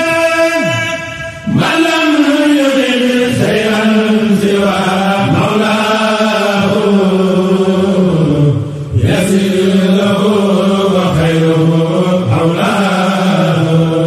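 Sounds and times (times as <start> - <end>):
religious chant sung: 0.0 - 14.0.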